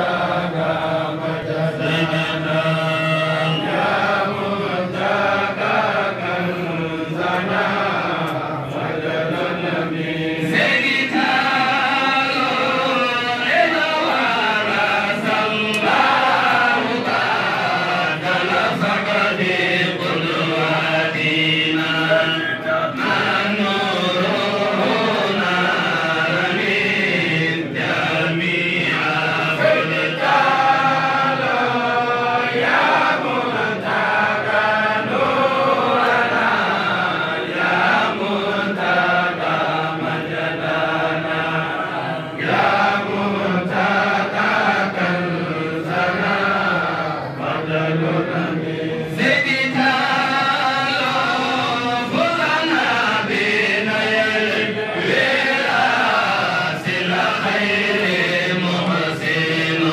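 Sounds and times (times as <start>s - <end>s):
men chanting together: 0.0s - 59.9s.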